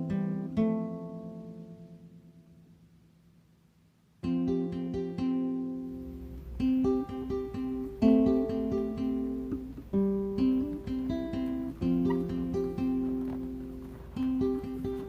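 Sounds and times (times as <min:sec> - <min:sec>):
fingerpicked acoustic guitar: 0:00.0 - 0:03.4, 0:04.2 - 0:15.0.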